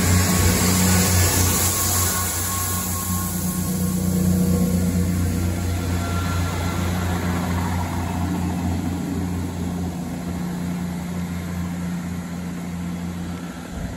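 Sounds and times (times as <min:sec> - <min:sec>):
diesel train engine hum: 0:00.0 - 0:13.9.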